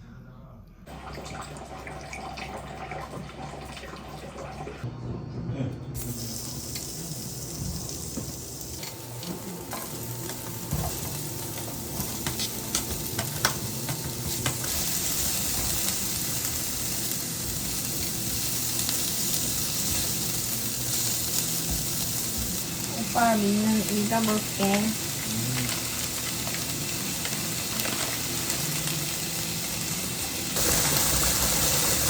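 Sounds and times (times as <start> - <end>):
food sizzling in a pan: 6.0 - 32.0.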